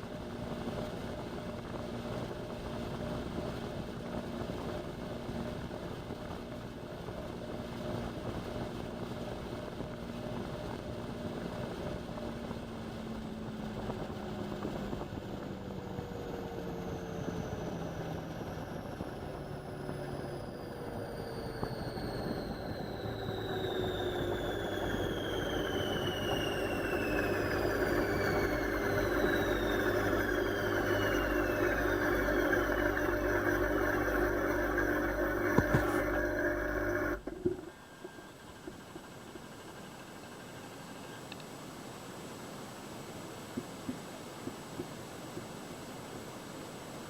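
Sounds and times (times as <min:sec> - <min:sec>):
washing machine spinning: 0:00.0 - 0:41.2.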